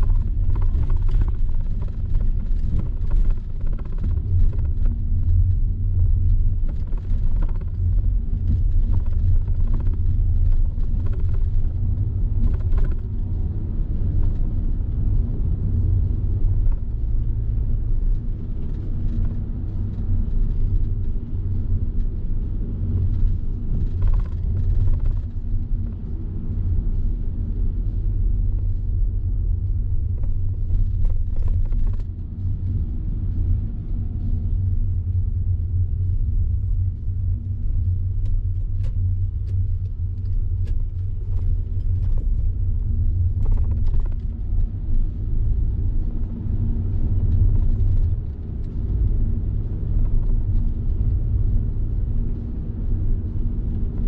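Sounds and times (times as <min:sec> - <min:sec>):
car road and wind noise: 0:00.0 - 0:54.0
faint ticks and rattles: 0:00.0 - 0:54.0.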